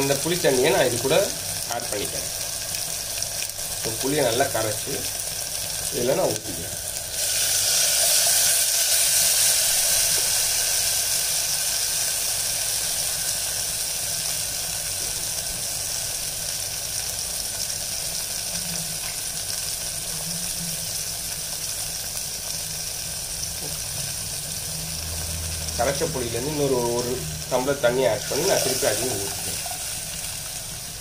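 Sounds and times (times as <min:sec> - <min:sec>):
liquid sizzling in hot oil: 0:00.0 - 0:31.0.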